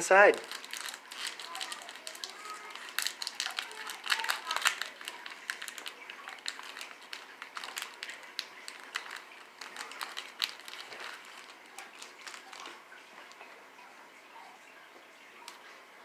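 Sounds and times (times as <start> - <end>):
foil wrapper crinkling: 0.1 - 13.6.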